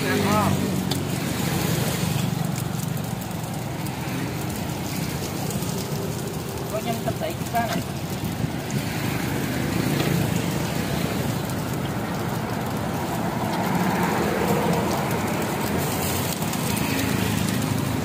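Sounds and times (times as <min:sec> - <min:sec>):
traffic passing: 0:00.0 - 0:18.0.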